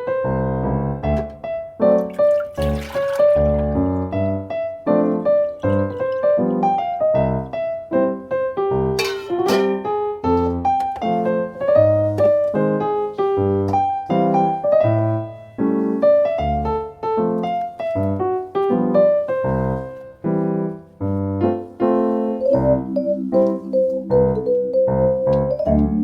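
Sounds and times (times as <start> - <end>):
upbeat piano tune: 0.0 - 26.0.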